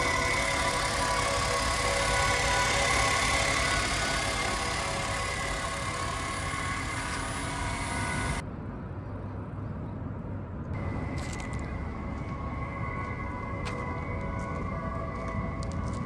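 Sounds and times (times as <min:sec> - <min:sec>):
engine running with a whine: 0:00.0 - 0:16.0.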